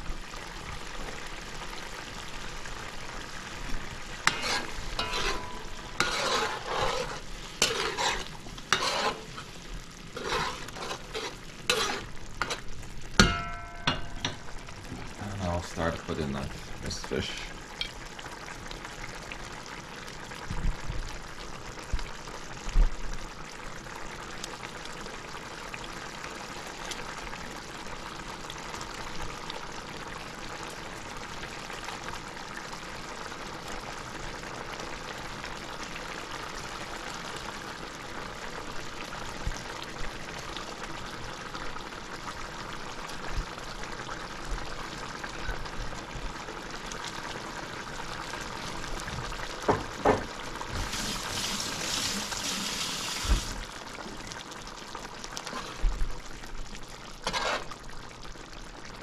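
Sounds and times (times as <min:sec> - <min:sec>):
curry bubbling: 0:00.0 - 0:59.0.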